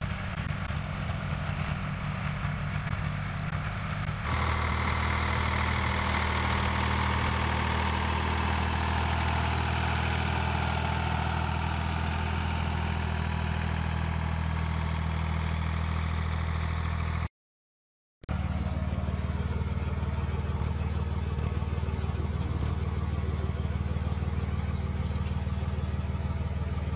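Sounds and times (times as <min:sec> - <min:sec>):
tractor engine running: 0:00.0 - 0:17.3, 0:18.3 - 0:26.9.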